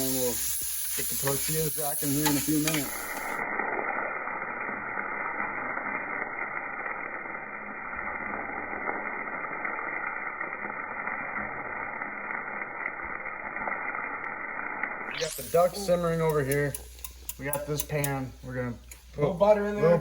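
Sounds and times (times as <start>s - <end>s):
meat sizzling in butter: 0.0s - 18.3s.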